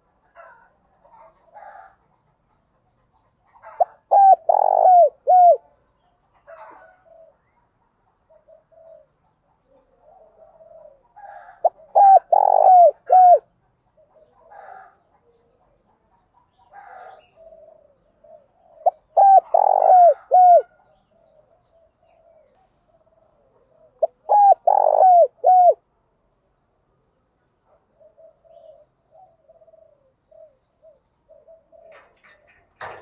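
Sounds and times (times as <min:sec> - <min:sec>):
dove cooing: 0:00.0 - 0:02.5, 0:03.4 - 0:25.9, 0:27.6 - 0:33.0.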